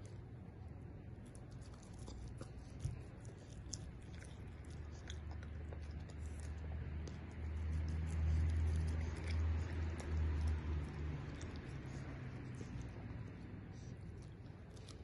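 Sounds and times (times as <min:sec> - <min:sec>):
dog chewing food: 0:00.0 - 0:15.0.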